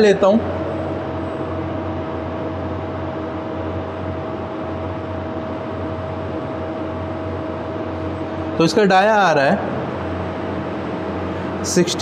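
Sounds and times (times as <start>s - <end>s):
lathe humming: 0.0s - 12.0s
mid-pitched whine: 0.0s - 12.0s.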